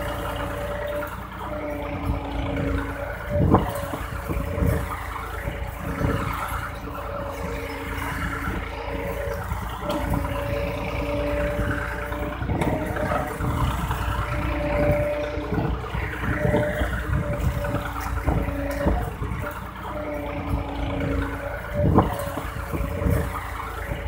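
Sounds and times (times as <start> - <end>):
toy tractor motor whining: 0.0 - 24.0.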